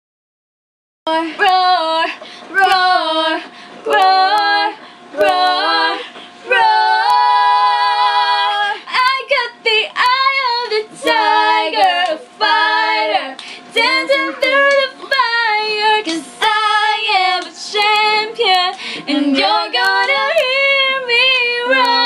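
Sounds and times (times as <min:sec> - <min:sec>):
woman singing pop song: 0:01.1 - 0:22.0.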